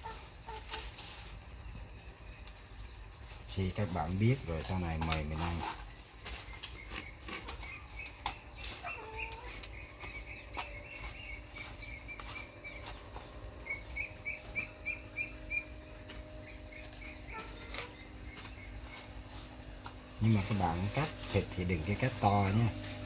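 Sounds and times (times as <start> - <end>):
small bird chirping: 0.0 - 23.0.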